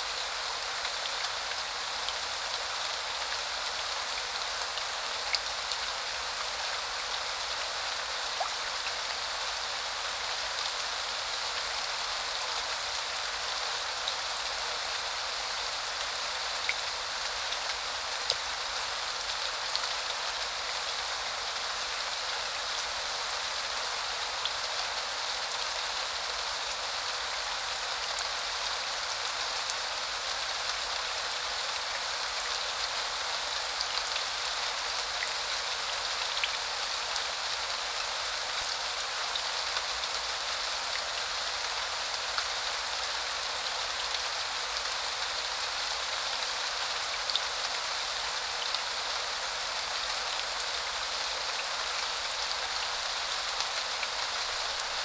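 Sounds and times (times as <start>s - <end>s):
rain hissing on surfaces: 0.0s - 55.0s.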